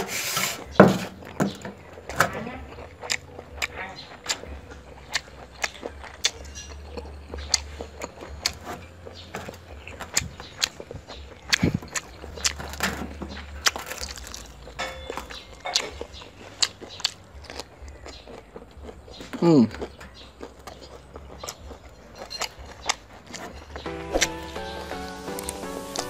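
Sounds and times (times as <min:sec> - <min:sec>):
biting into a roll: 0:00.0 - 0:24.4
wet chewing with mouth clicks: 0:00.0 - 0:26.0.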